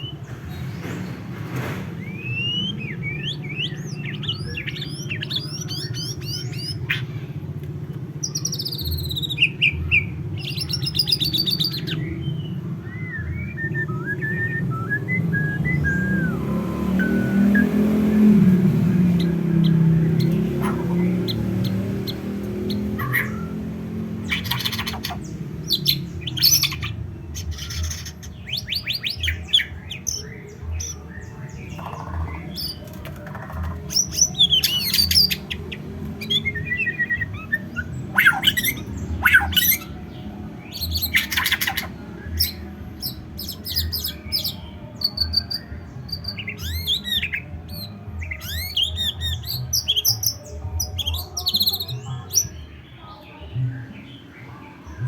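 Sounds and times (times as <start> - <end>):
songbird singing whistled phrases: 2.0 - 7.1, 8.2 - 32.8, 33.9 - 52.6.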